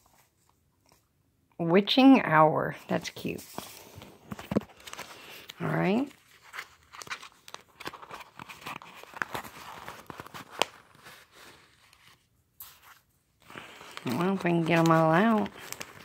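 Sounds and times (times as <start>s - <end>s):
plastic sheet crinkling: 2.8s - 16.0s.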